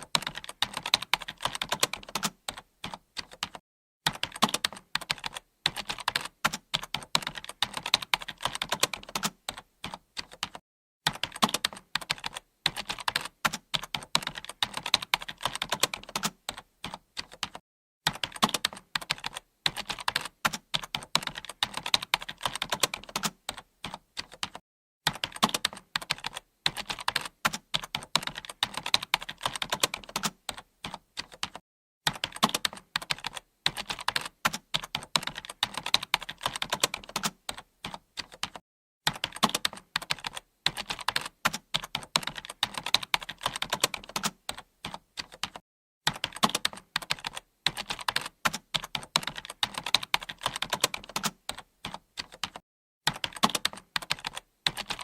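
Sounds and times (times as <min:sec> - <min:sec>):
keyboard typing clicks: 0:00.1 - 0:55.0.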